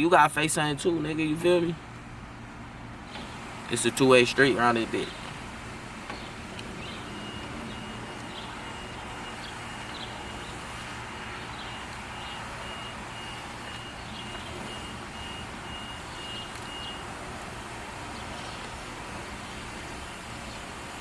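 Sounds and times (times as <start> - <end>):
vehicle low hum: 0.0 - 21.0.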